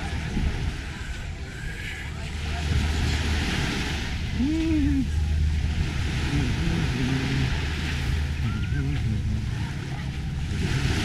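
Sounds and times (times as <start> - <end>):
faint voices: 0.0 - 11.0
low rumble: 0.0 - 11.0.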